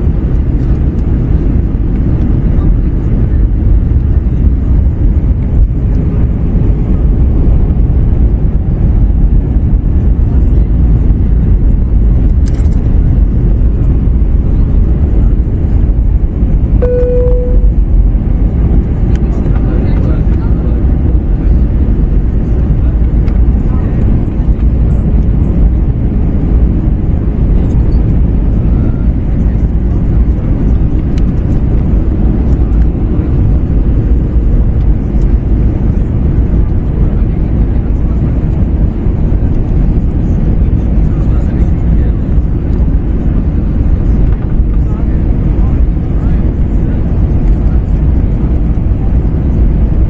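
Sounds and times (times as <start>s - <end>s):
airplane cabin rumble: 0.0s - 50.0s.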